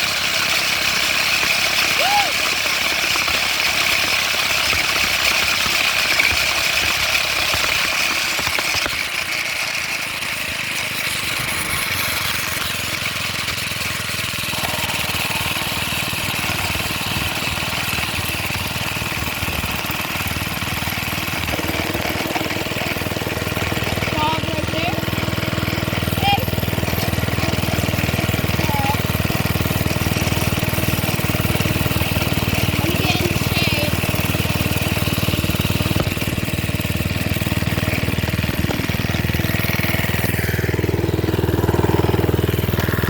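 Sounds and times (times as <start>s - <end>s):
small gasoline engine running: 0.0s - 43.0s.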